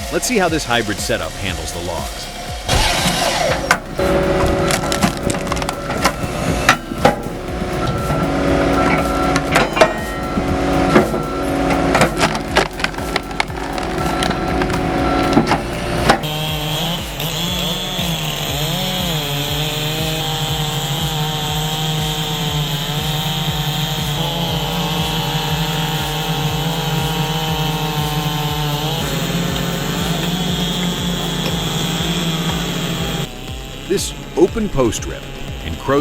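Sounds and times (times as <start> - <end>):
machine engine and hydraulic saw: 0.0 - 36.0.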